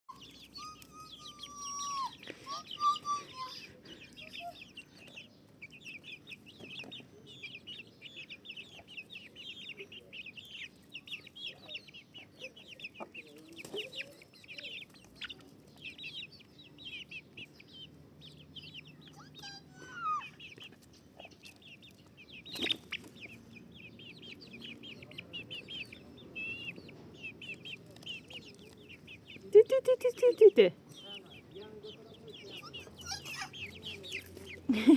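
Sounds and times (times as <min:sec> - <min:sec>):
chickens clucking: 0:00.1 - 0:34.9.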